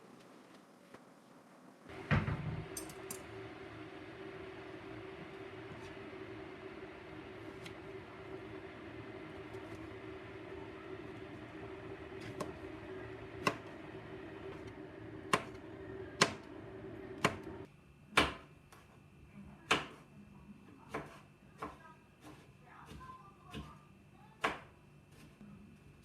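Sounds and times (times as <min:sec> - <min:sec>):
appliance hum: 0:00.0 - 0:26.0.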